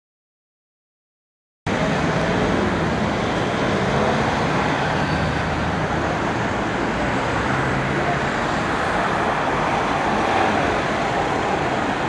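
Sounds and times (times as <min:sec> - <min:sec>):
road noise: 0:01.7 - 0:12.0.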